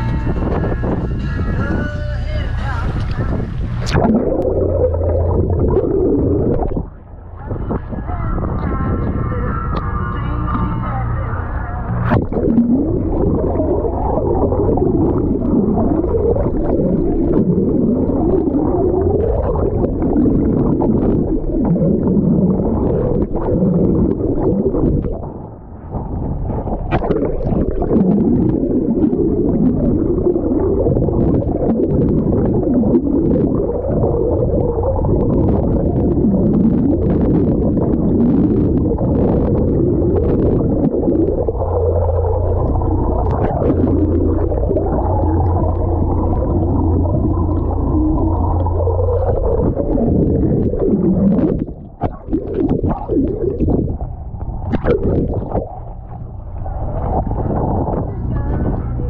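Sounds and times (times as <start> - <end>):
muffled underwater rushing water: 0.0 - 59.0
steady low hum: 0.0 - 59.0.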